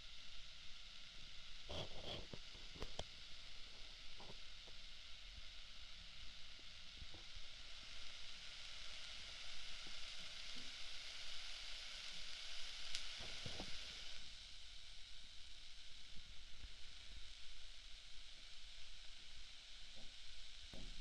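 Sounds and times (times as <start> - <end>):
ear candle sizzling hiss: 0.0 - 21.0.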